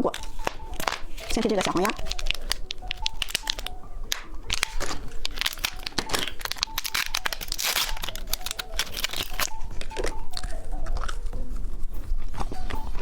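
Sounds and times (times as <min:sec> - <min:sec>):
packaging tearing: 0:00.0 - 0:11.2
packaging crinkling: 0:00.0 - 0:13.0.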